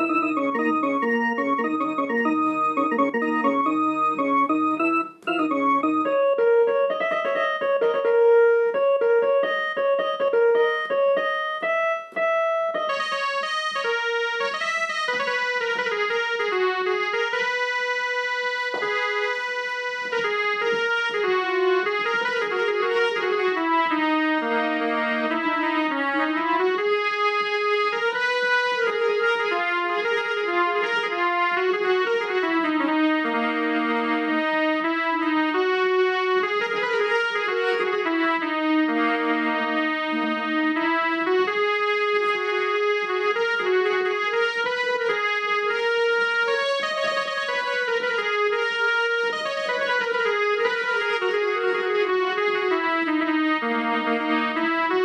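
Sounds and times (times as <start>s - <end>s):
electronic harmonium melody: 0.0s - 55.0s.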